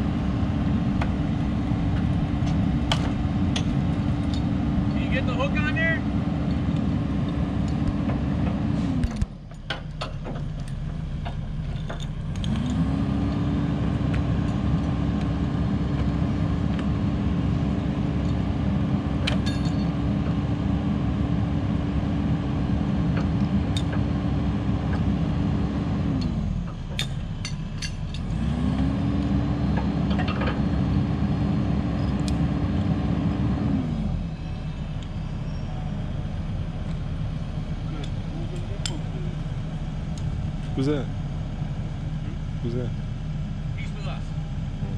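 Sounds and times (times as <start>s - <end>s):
diesel engine revving and idling: 0.0s - 44.9s.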